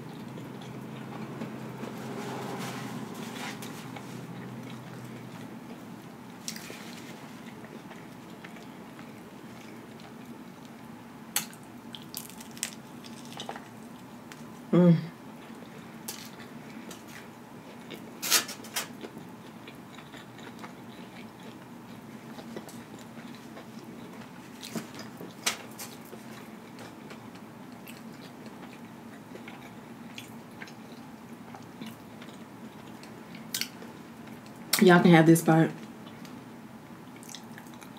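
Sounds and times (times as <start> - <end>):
person chewing food: 0.0 - 1.8, 3.5 - 14.5, 15.4 - 18.2, 18.9 - 34.6, 37.0 - 37.9
low steady hum: 0.0 - 37.9.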